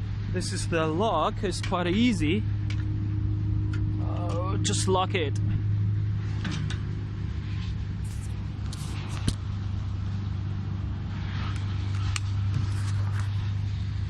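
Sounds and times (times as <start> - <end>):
low hum of road traffic: 0.0 - 14.0.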